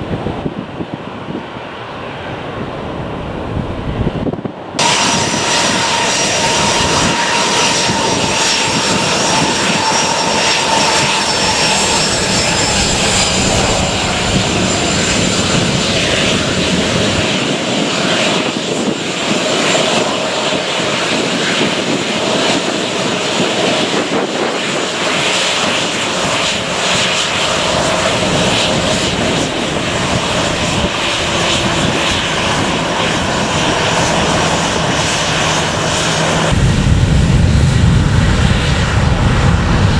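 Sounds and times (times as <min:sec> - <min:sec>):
airliner engines at takeoff power: 0:00.0 - 0:39.9.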